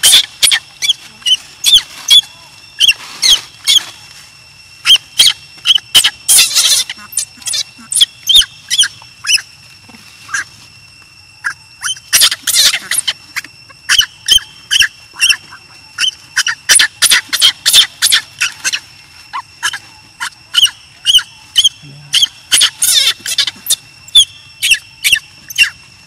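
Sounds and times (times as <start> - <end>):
baby monkey squealing cries: 0.0 - 2.2, 2.8 - 3.9, 4.8 - 9.4, 10.2 - 10.5, 11.4 - 25.8
faint steady high tone: 0.0 - 26.0.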